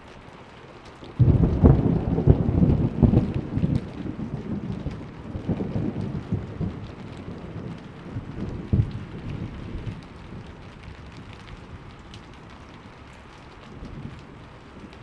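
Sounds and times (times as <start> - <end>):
steady rain: 0.0 - 15.0
thunder rumbling and crackling: 1.0 - 15.0.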